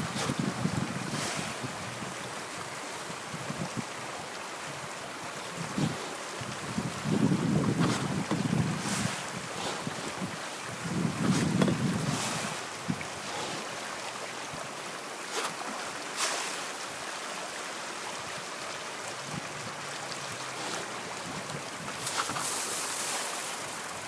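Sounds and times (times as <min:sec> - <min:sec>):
wind on microphone: 0:00.0 - 0:15.8, 0:19.2 - 0:24.0
water splashing in pond: 0:00.0 - 0:24.0.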